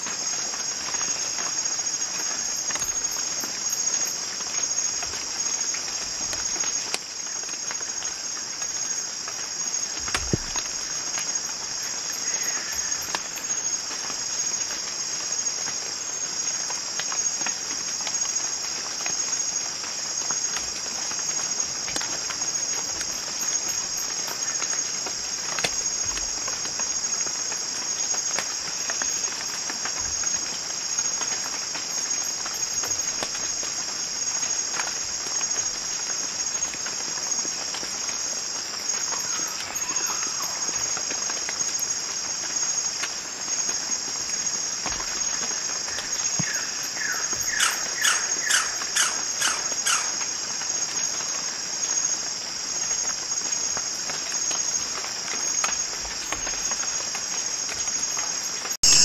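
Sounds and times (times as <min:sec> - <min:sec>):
insect chorus trilling: 0:00.0 - 0:59.0.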